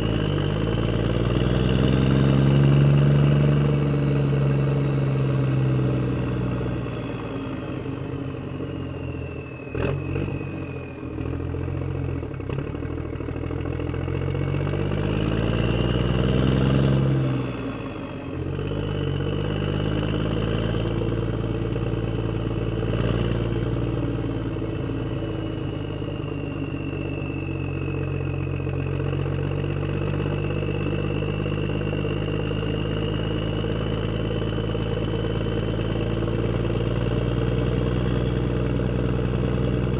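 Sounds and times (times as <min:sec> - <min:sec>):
engine drone with high whine: 0:00.0 - 0:39.9.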